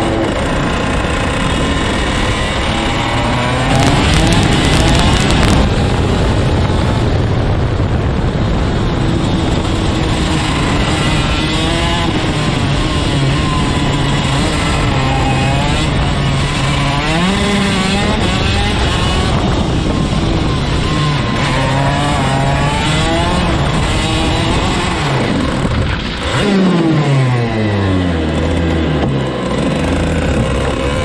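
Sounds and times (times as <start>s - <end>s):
racing kart engine: 0.0s - 31.0s.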